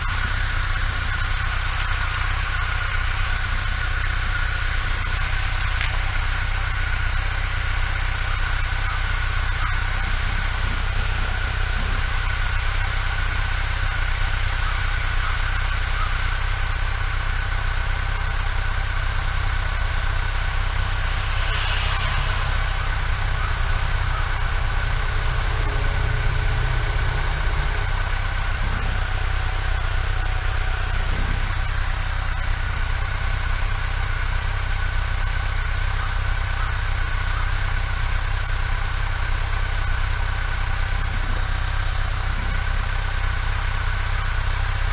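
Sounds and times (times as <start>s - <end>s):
motorcycle engine running: 0.0s - 44.9s
riding noise hiss: 0.0s - 44.9s.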